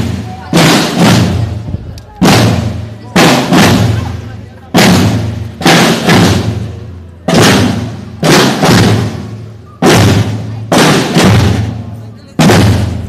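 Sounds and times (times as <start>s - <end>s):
marching snare drums: 0.0s - 13.0s.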